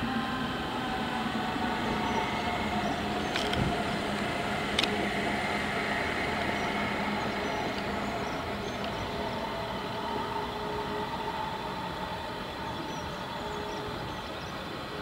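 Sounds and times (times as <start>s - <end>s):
electric train hum and whine: 0.0s - 15.0s.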